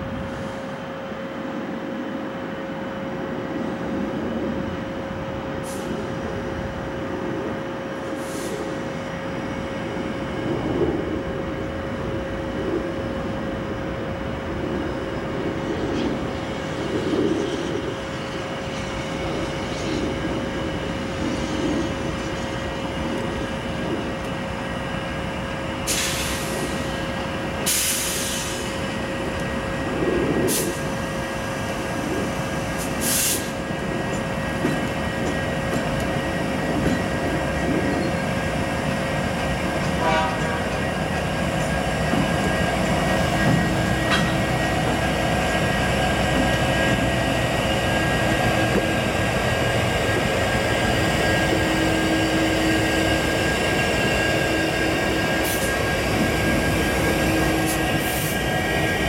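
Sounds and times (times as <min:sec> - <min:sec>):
diesel locomotive engines rumbling: 0:00.0 - 0:59.0.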